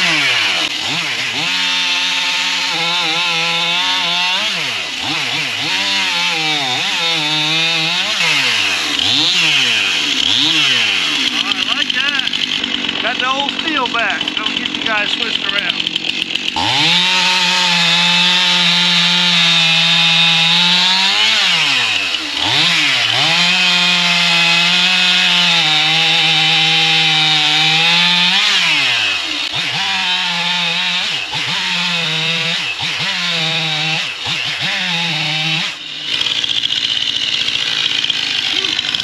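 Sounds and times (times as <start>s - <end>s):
chainsaw revving: 0.0s - 39.0s.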